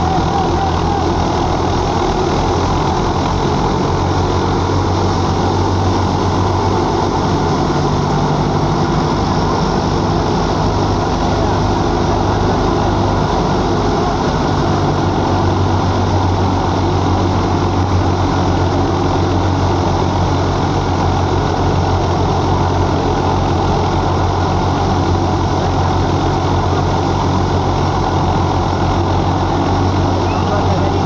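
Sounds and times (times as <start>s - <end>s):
tractor engine throbbing: 0.0s - 31.0s.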